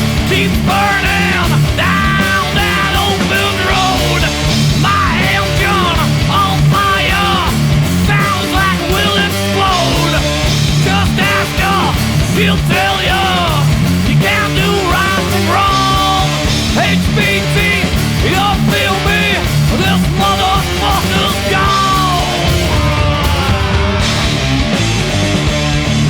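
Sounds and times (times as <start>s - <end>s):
bass guitar: 0.0s - 26.0s
bending lead guitar lines: 0.0s - 26.0s
distorted electric guitars: 0.0s - 26.0s
drums: 0.0s - 26.0s.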